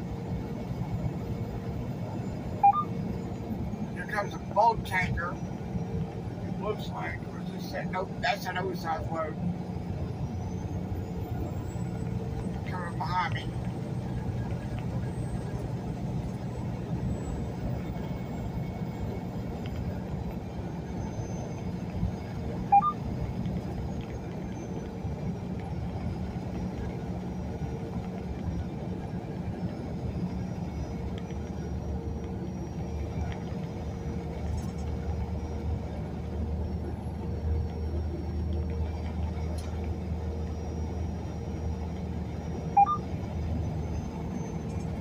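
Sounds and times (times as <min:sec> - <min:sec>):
truck engine and road rumble: 0:00.0 - 0:45.0.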